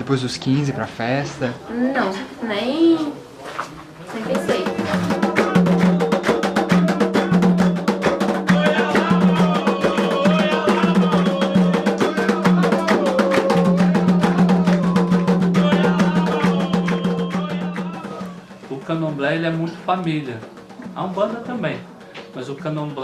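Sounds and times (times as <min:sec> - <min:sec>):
hand drums fast rhythm: 0:04.3 - 0:23.0.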